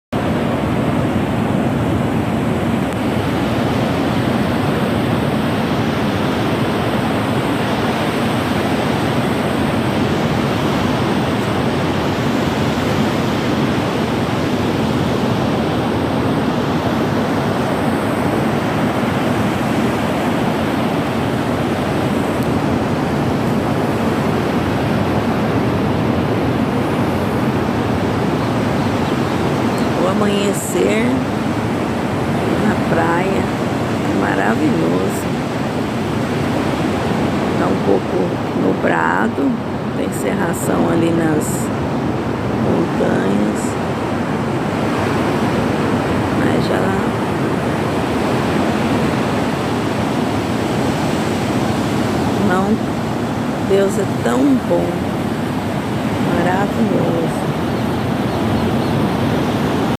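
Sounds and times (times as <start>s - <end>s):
ocean surf roaring: 0.1s - 59.9s.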